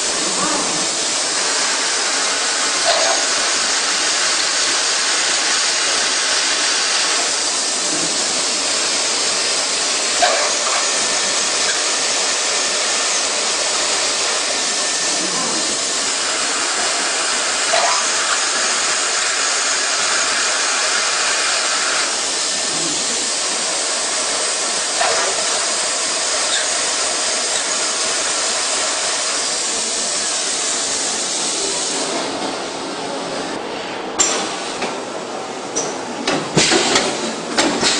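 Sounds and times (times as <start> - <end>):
cnc machine hiss: 0.0 - 37.9.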